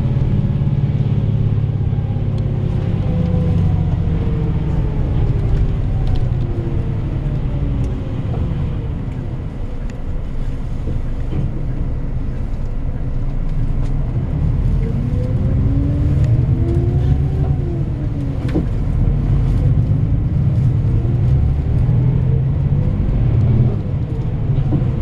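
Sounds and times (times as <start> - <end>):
bus engine: 0.0 - 25.0
road noise: 0.0 - 25.0.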